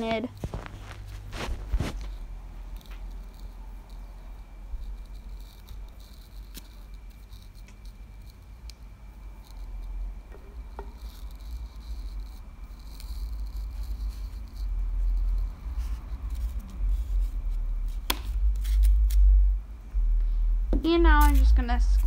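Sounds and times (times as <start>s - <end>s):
paintbrush brushing: 0.1s - 8.6s, 9.2s - 18.9s.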